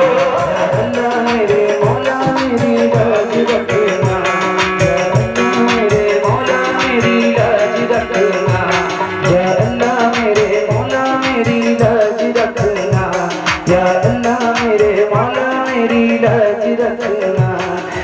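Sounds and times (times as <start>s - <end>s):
hand drum beat: 0.0s - 18.0s
harmoniums playing melody: 0.0s - 18.0s.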